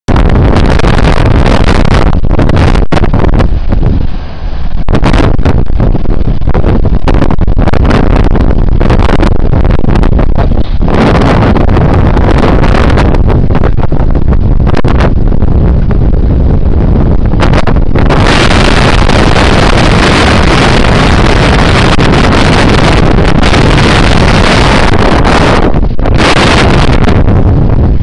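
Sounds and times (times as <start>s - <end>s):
heavy wind buffeting microphone: 0.0s - 28.0s.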